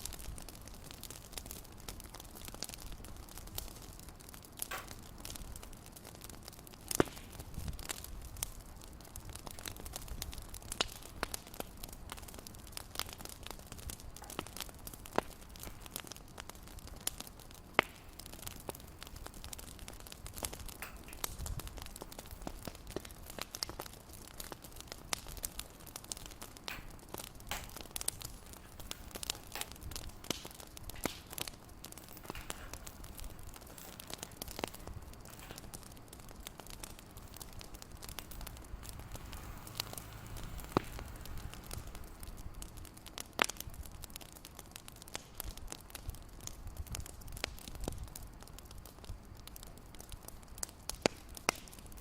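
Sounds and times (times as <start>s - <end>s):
soft steady hiss: 0.0s - 52.0s
wood fire crackling: 0.0s - 52.0s.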